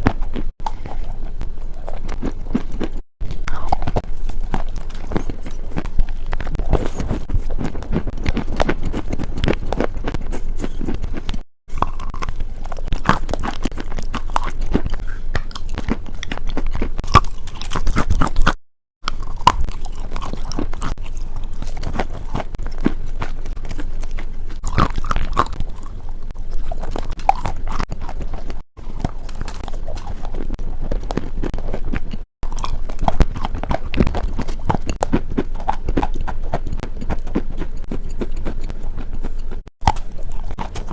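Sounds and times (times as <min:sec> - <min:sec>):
close crunching and crackling: 0:00.0 - 0:40.9.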